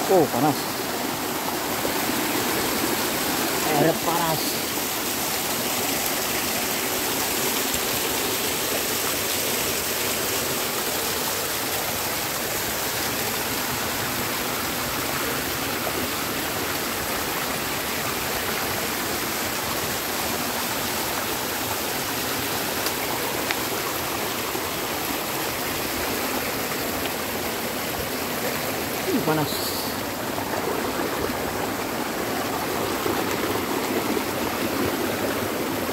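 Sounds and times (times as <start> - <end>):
stream rushing: 0.0 - 35.9.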